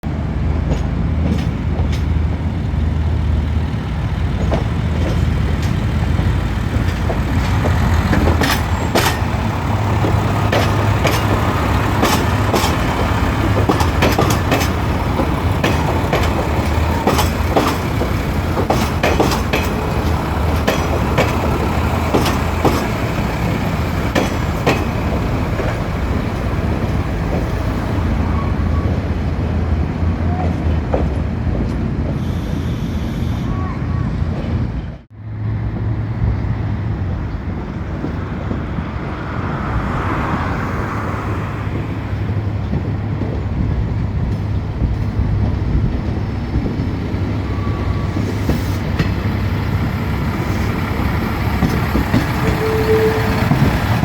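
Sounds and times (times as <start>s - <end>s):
diesel railcar engine rumble: 0.0s - 54.0s
train wheels clicking on track: 0.1s - 54.0s.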